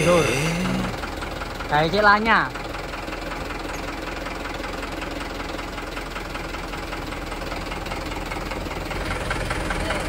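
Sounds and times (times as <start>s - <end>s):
diesel truck engine clattering: 0.0s - 10.0s.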